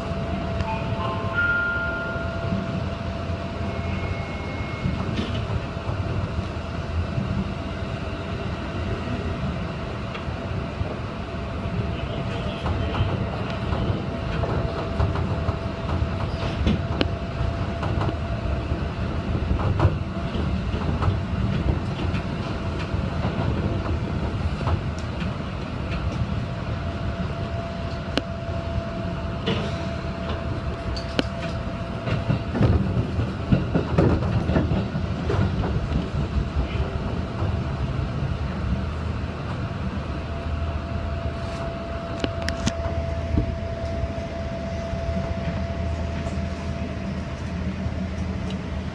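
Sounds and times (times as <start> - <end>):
train rumbling: 0.0 - 48.9.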